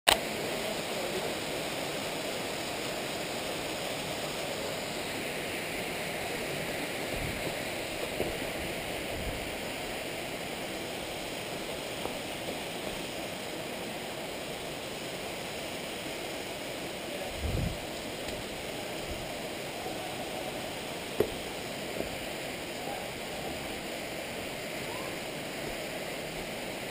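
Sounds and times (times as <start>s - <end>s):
waterfall rushing: 0.2s - 26.9s.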